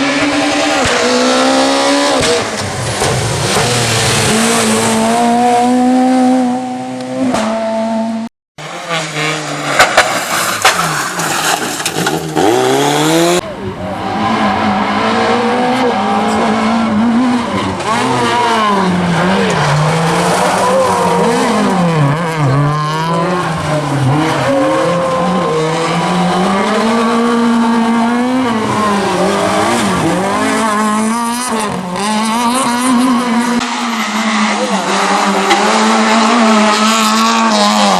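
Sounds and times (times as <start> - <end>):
rally car engine revving: 0.0 - 37.9.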